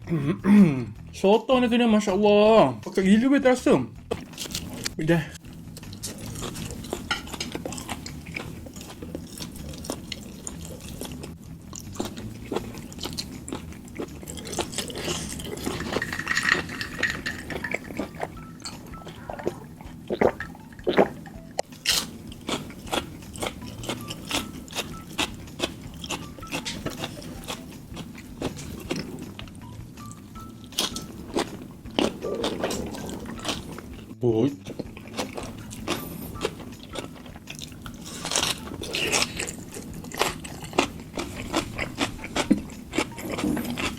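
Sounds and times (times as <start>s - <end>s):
chewing crunchy food: 4.0s - 43.9s.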